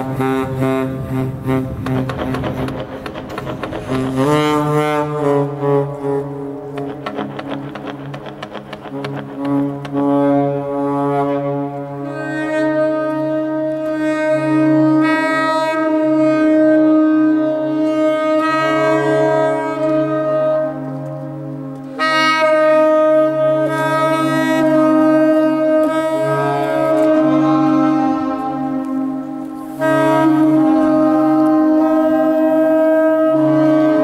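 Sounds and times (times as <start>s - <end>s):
saxophone low sustained notes: 0.0s - 34.0s.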